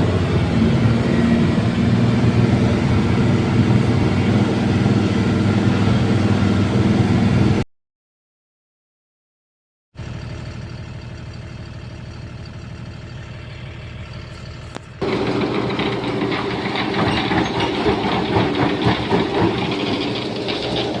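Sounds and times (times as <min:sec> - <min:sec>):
heavy diesel engine running: 0:00.0 - 0:07.6, 0:10.0 - 0:21.0.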